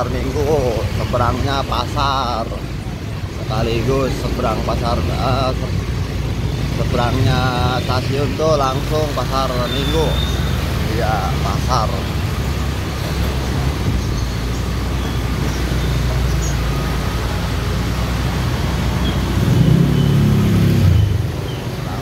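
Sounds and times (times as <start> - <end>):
motorbike traffic rumble: 0.0 - 22.0.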